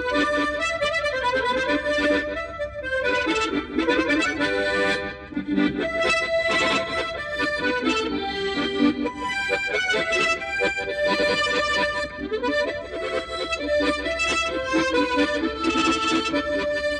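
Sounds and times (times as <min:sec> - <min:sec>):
harmonica playing a lively tune: 0:00.0 - 0:16.9.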